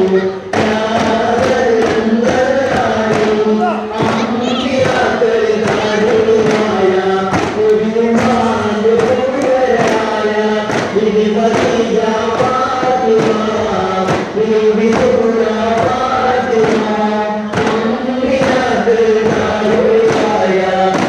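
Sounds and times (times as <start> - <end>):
frame drums beating: 0.0 - 21.0
men chanting in unison: 0.0 - 21.0.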